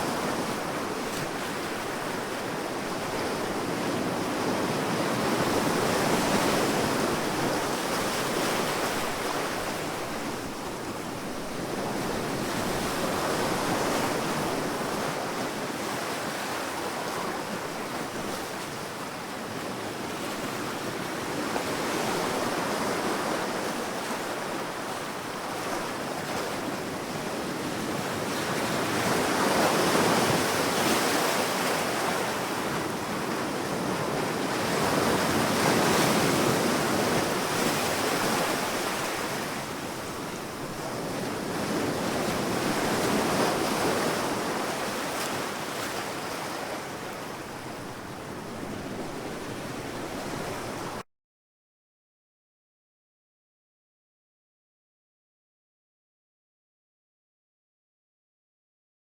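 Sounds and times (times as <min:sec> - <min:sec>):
sea waves breaking on a beach: 0:00.0 - 0:51.0.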